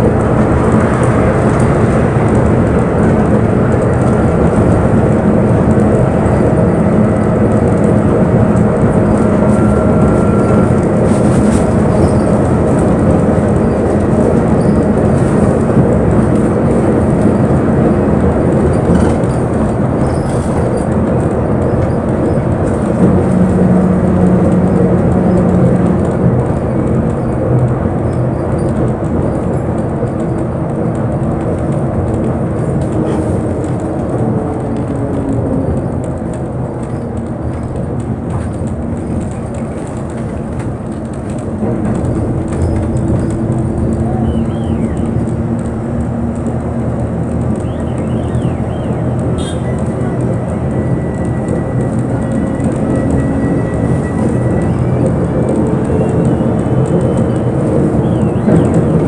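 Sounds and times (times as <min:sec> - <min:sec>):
bus engine droning: 0:00.0 - 0:59.0
road noise: 0:00.0 - 0:59.0.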